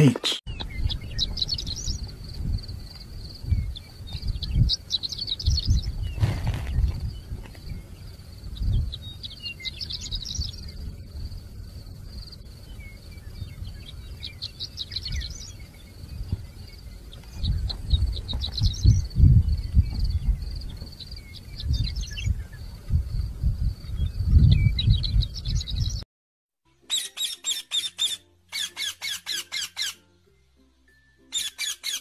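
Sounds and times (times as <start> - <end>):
bird singing: 0.0 - 6.2, 7.0 - 22.9, 26.8 - 30.0, 31.2 - 32.0.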